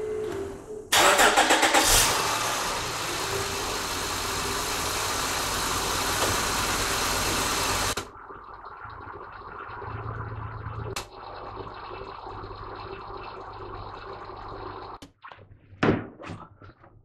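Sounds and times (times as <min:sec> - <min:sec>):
car engine starting and running: 0:00.9 - 0:15.0.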